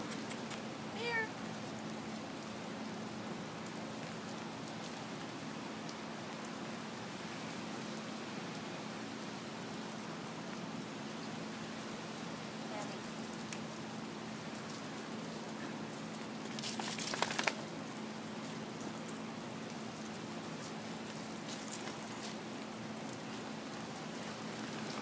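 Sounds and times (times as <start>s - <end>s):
light rain on gravel: 0.0s - 25.0s.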